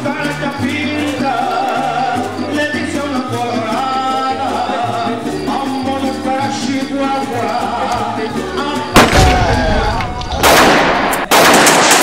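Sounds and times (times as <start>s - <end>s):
music with singing: 0.0s - 10.4s.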